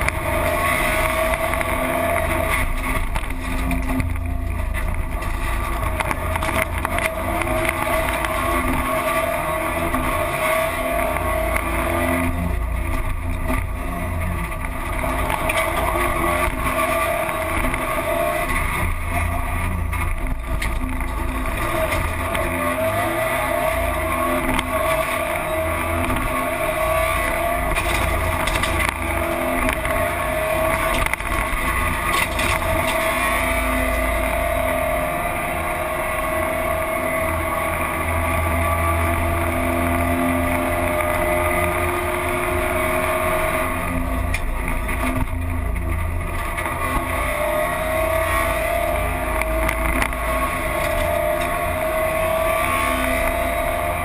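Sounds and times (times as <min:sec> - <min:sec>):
rally car engine revving: 0:00.0 - 0:54.0
tyre and road noise: 0:00.0 - 0:54.0.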